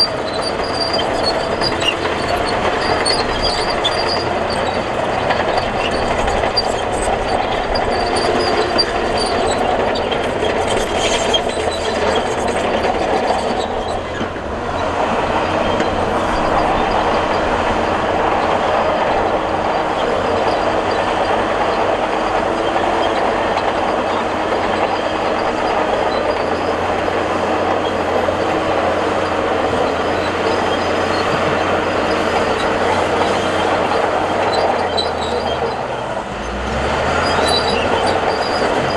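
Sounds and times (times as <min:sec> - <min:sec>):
diesel engine drone: 0:00.0 - 0:38.9
steel tracks clattering and squealing: 0:00.0 - 0:38.9.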